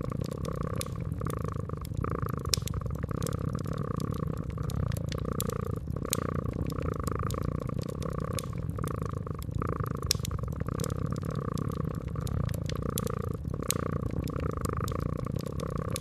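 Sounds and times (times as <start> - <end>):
cat purring: 0.0 - 16.0
wood fire crackling and popping: 0.0 - 16.0.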